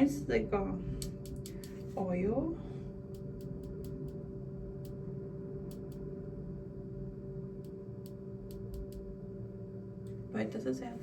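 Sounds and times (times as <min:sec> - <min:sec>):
steady multi-tone hum: 0:00.0 - 0:11.0.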